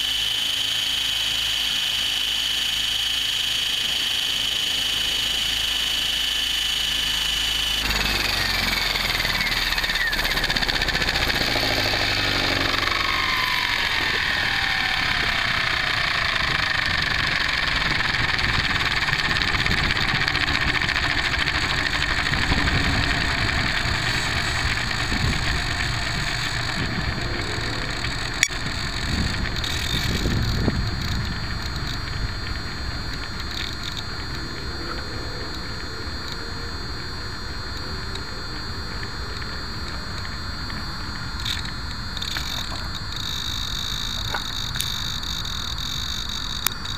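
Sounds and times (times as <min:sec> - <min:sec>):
rc helicopter rotor whine: 0:00.0 - 0:46.9.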